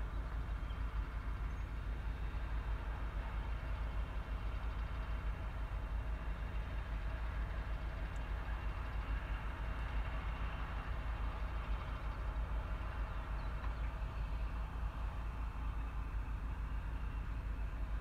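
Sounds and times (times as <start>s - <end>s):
distant freight train rumble: 0.0s - 18.0s.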